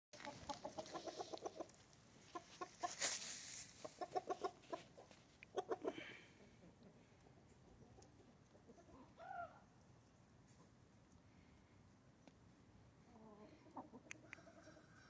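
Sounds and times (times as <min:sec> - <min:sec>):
chickens clucking: 0:00.2 - 0:11.2, 0:13.0 - 0:15.0.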